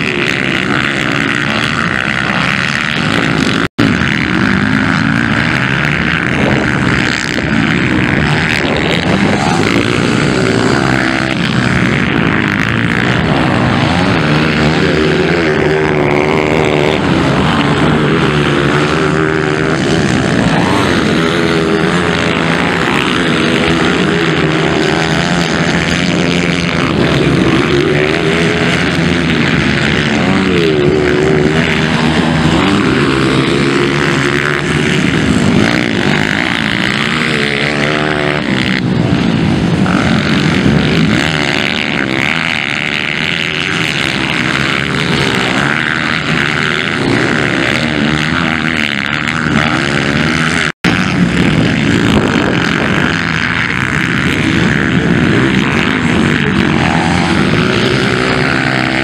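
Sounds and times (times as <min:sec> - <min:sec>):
motocross bikes revving past: 0:00.0 - 0:59.0.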